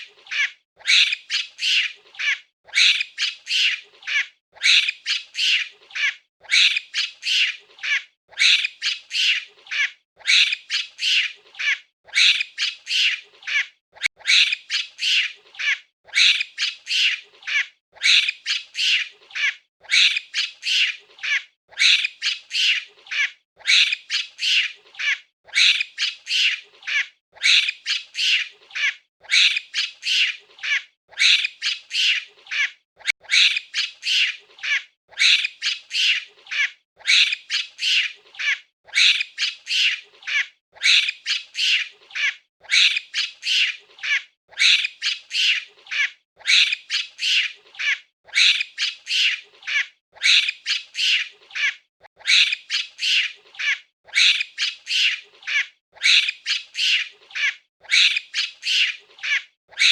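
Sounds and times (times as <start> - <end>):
monkey chattering: 0.0 - 59.9.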